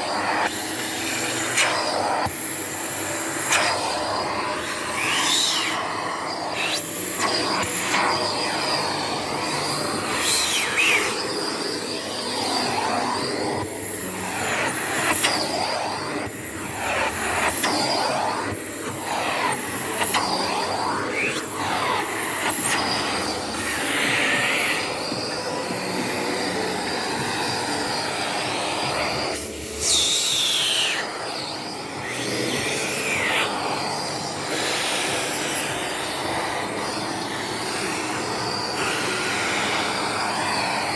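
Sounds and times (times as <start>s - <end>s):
vacuum cleaner whine: 0.0s - 40.9s.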